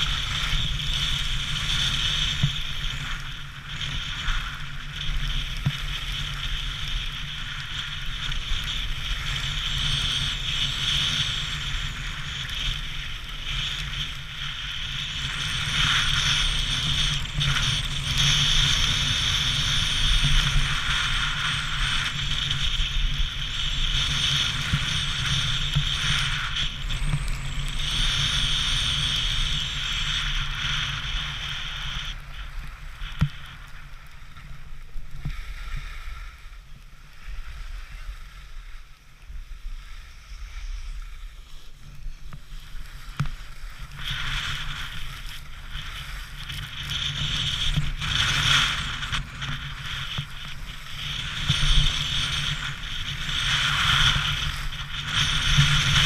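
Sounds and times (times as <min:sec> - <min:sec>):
skis scraping over snow: 0:00.0 - 0:56.0
wind rumbling on microphone: 0:00.0 - 0:56.0.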